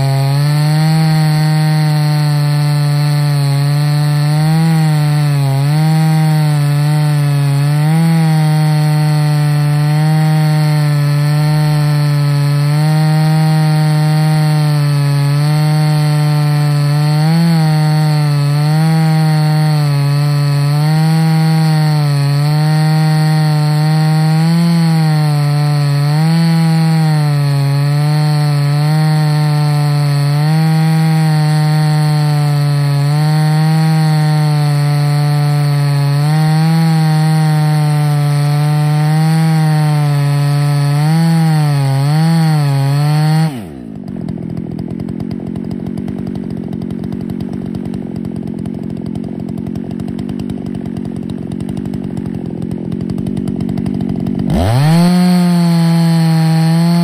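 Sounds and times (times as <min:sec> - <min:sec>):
chainsaw cutting log at full throttle: 0:00.0 - 0:57.0.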